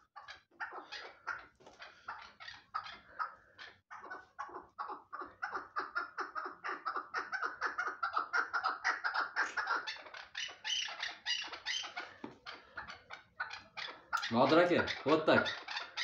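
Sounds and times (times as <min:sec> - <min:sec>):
partridge rapid clucking calls: 0:00.0 - 0:16.0.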